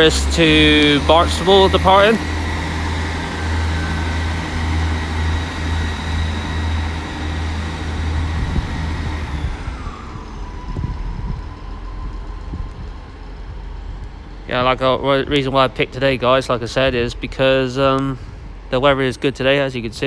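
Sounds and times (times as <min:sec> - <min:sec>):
diesel engine drone: 0:00.0 - 0:20.0
high steady whine: 0:00.0 - 0:20.0.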